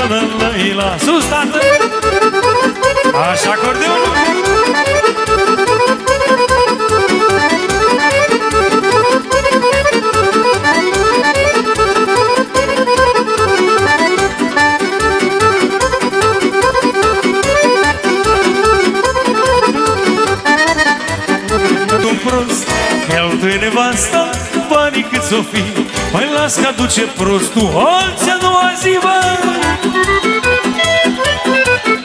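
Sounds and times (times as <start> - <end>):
accordion solo: 0.0 - 32.0
folk band driving beat: 0.0 - 32.0.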